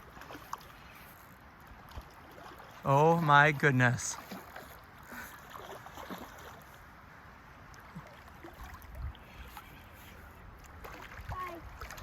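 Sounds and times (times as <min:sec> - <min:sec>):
flowing river water: 0:00.0 - 0:12.0
water splashing and gurgling: 0:00.0 - 0:12.0.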